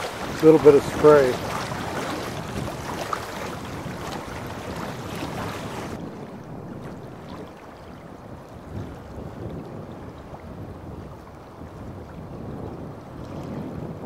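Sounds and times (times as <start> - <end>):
river water splashing and rushing: 0.0 - 11.9
wind on microphone: 0.0 - 14.0.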